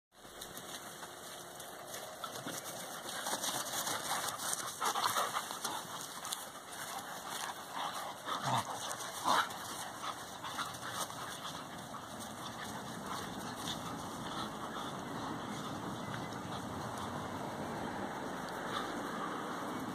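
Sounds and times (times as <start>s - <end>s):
dogs play-fighting sounds: 0.2s - 19.9s.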